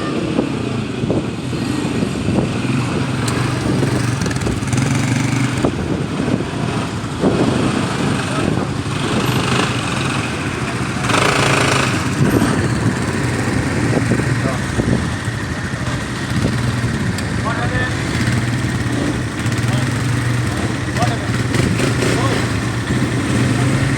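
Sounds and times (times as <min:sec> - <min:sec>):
loud rush of noise: 0:00.0 - 0:23.9
quad bike engine running: 0:00.0 - 0:23.9.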